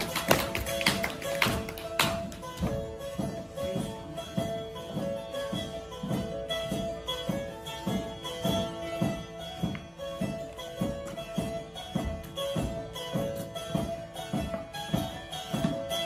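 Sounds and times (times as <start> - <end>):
table zither dance tune: 0.0 - 16.0.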